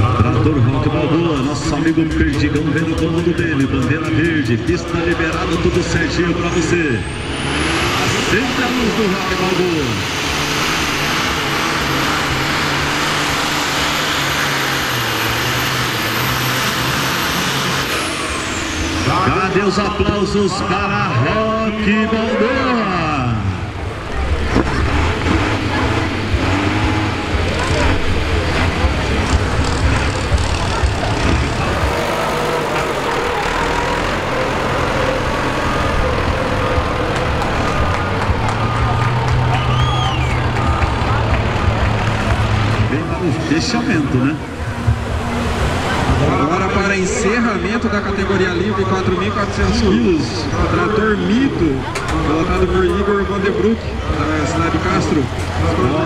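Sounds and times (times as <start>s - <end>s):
tractor diesel engine at full load: 0.0s - 56.0s.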